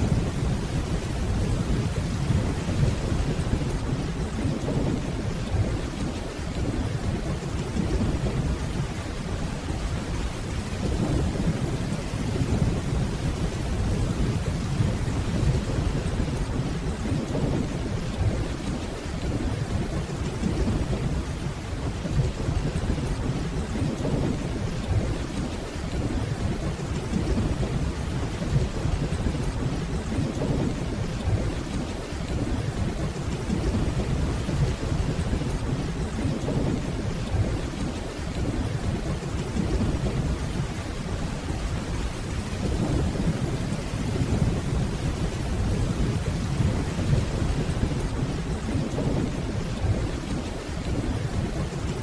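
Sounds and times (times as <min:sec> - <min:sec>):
distant thunder rumble: 0:00.0 - 0:52.0
steady rainfall: 0:00.0 - 0:52.0.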